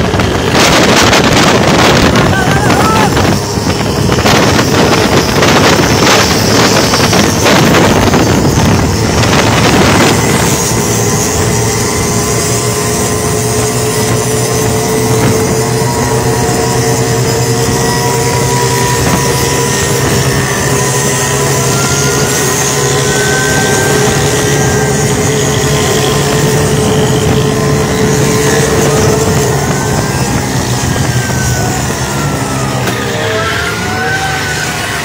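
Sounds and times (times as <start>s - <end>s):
auto-rickshaw engines droning: 0.0s - 35.0s
higher engine note: 0.0s - 35.0s
road noise: 0.0s - 35.0s.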